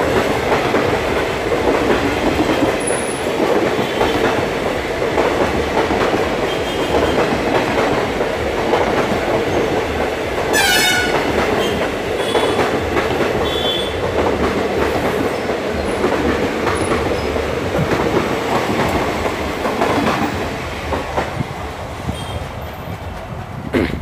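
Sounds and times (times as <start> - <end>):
train rushing past rumble: 0.0 - 24.0
train wheels clattering: 0.0 - 24.0.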